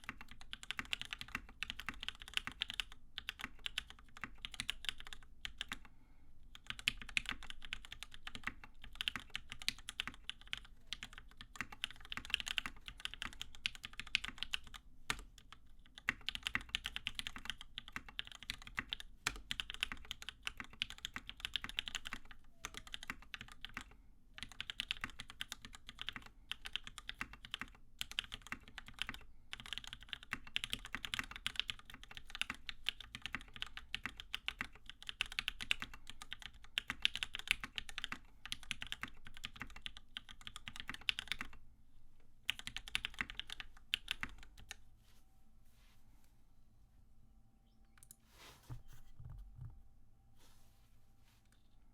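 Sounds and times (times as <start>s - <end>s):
mechanical keyboard typing: 0.0s - 5.9s, 6.6s - 41.6s, 42.5s - 44.8s.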